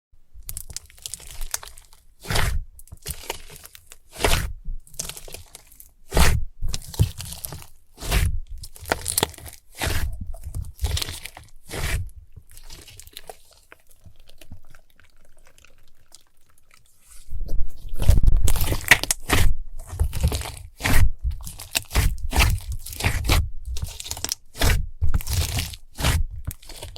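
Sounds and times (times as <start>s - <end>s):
crunchy slime crackling: 0.4s - 26.9s.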